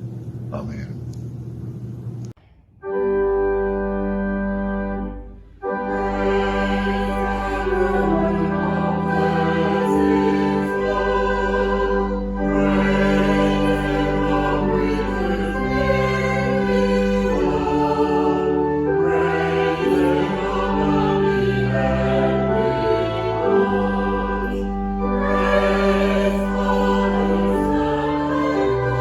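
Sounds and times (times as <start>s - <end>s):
choral church music: 2.7s - 29.0s.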